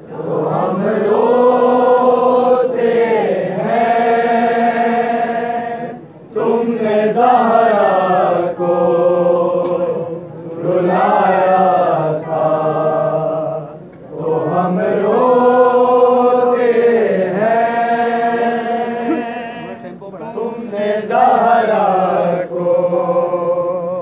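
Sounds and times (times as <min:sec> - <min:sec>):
men chanting a mourning lament: 0:00.2 - 0:24.0.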